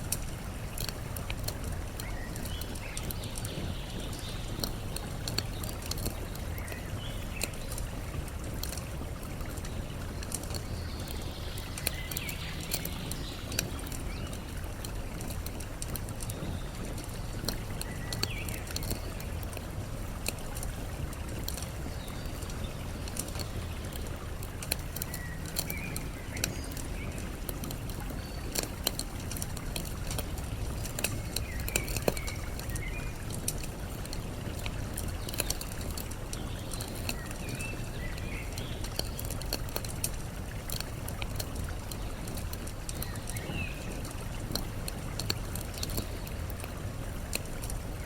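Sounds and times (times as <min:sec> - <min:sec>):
campfire crackling: 0:00.0 - 0:48.0
flowing water: 0:00.0 - 0:48.0.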